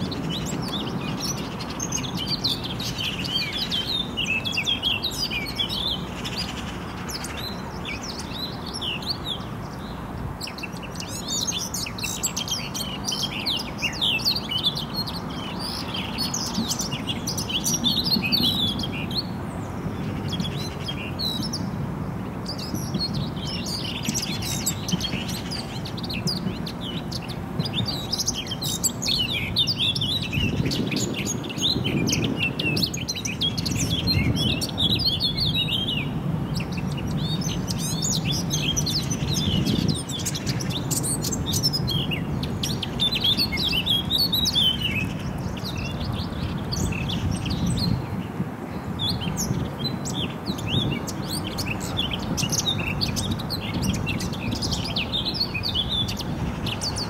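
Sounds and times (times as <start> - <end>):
bird warbling song: 0.0 - 57.0.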